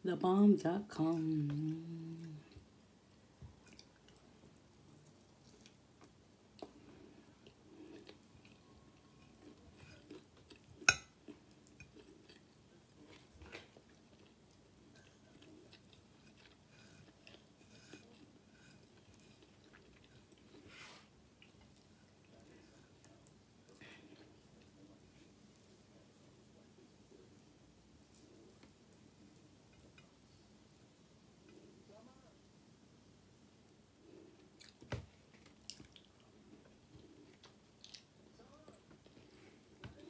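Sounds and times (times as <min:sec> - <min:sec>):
close-up chewing sounds: 0:03.5 - 0:30.2, 0:33.7 - 0:40.0.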